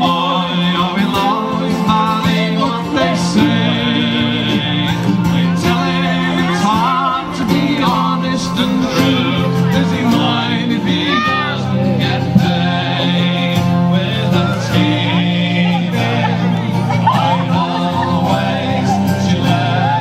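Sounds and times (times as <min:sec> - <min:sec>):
person singing: 0:00.0 - 0:20.0
squeezeboxes playing folk music: 0:00.0 - 0:20.0.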